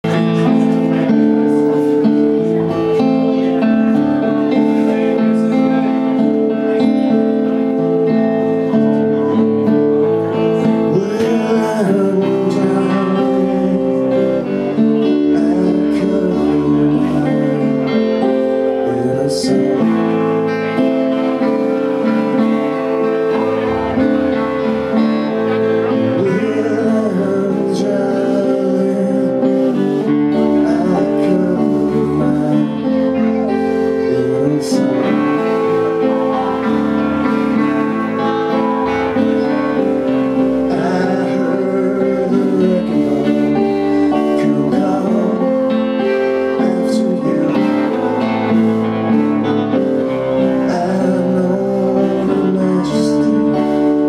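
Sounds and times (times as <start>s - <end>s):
man singing: 0.0s - 54.0s
strummed acoustic guitars: 0.0s - 54.0s.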